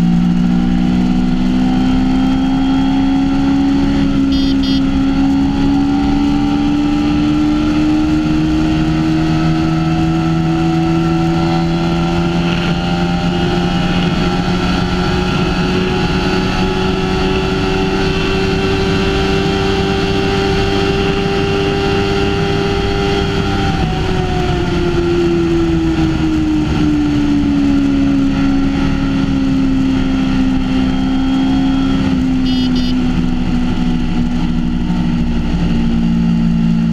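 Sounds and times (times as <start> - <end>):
motorcycle engine at high speed: 0.0 - 36.9
wind rush on microphone: 0.0 - 36.9.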